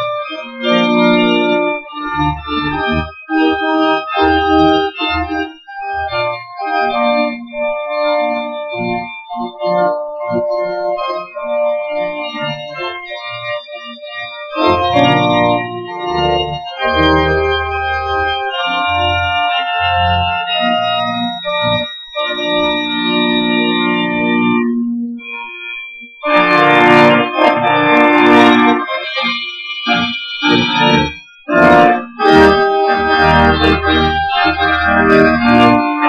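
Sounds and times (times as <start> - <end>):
deep organ pedal bass: 0.0 - 25.5, 26.2 - 36.0
church organ chords: 0.0 - 36.0.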